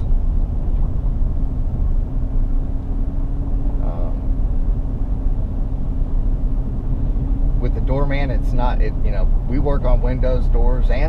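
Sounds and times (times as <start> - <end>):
vehicle cabin road rumble: 0.0 - 11.0.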